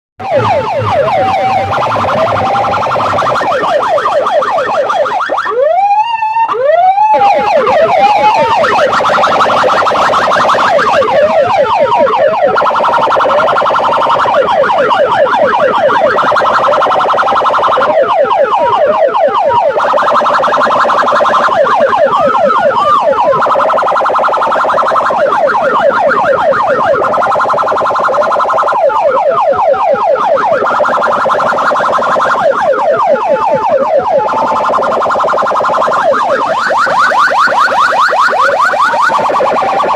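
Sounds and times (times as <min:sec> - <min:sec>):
electronic siren warble: 0:00.2 - 0:39.9.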